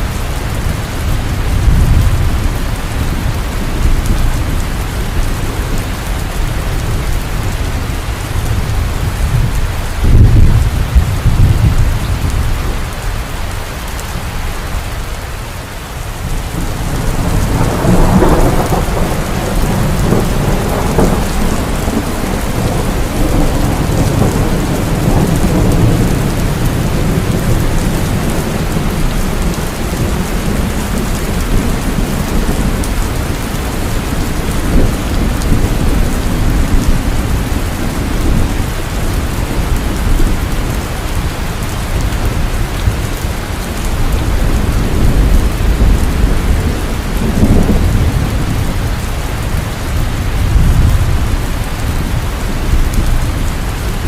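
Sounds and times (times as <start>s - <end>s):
thunder clap and rumble: 0.0s - 14.9s, 16.0s - 54.0s
heavy rain falling: 0.0s - 54.0s.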